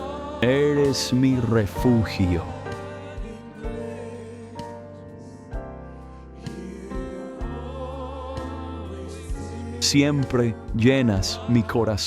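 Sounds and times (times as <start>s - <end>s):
slow worship music: 0.0s - 12.0s.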